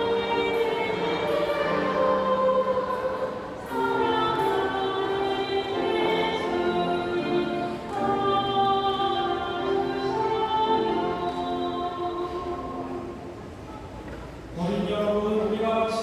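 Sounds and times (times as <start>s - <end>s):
choir singing a hymn: 0.0s - 13.4s.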